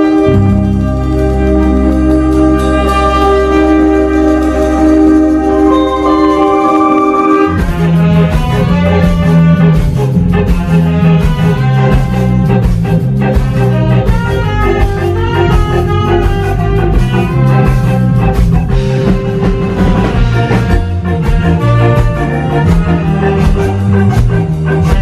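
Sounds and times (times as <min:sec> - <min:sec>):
bass line: 0:00.0 - 0:25.0
drum kit: 0:00.0 - 0:25.0
guitar: 0:00.0 - 0:25.0
saxophone and trumpet horn lines: 0:00.0 - 0:25.0.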